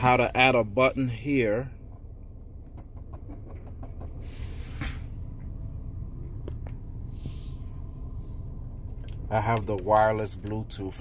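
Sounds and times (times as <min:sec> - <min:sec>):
low rumble inside car cabin: 0:00.0 - 0:11.0.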